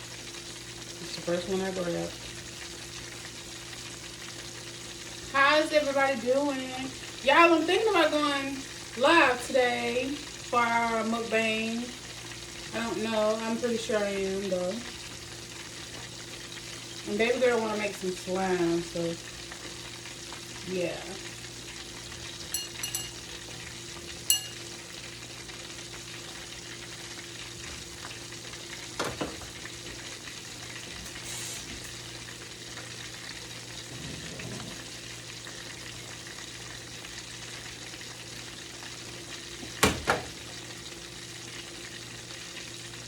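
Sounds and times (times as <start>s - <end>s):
fish and shrimp sizzling in a pan: 0.0s - 43.0s.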